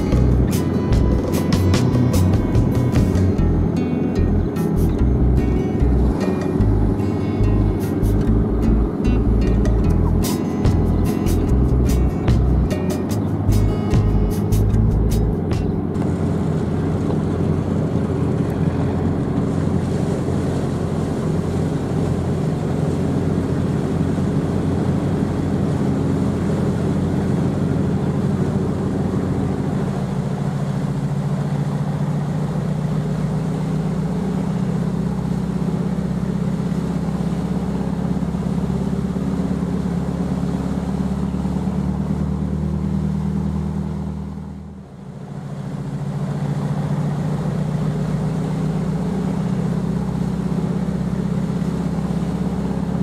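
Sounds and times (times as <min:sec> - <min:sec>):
ferry engines droning: 0:00.0 - 0:53.0.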